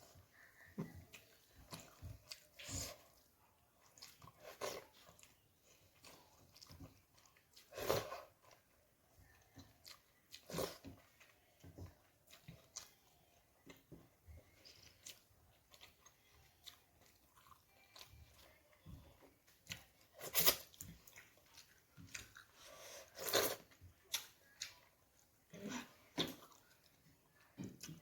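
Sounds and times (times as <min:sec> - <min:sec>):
chewing and biting food: 0:00.3 - 0:28.0.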